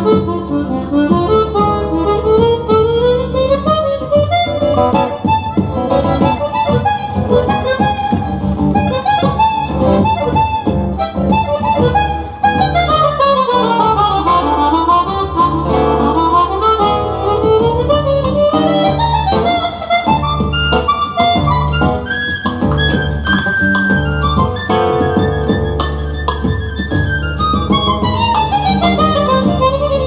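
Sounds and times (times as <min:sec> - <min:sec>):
acoustic guitar accompaniment: 0:00.0 - 0:30.0
harmonica solo: 0:00.0 - 0:30.0.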